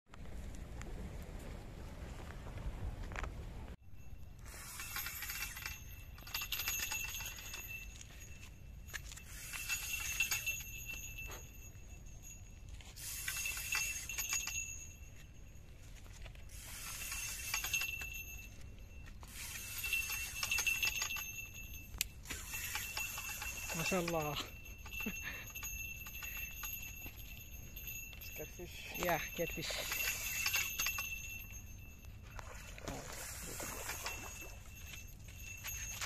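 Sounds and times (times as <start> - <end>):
bell jingling on fishing rod: 4.0 - 36.0.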